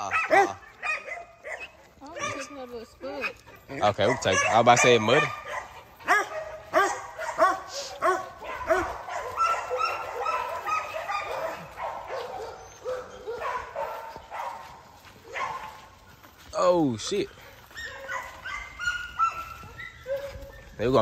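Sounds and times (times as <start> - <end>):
dog whining and yipping: 0.0 - 4.6, 5.4 - 14.4, 17.6 - 21.0
dog barking: 0.0 - 16.0, 17.6 - 21.0.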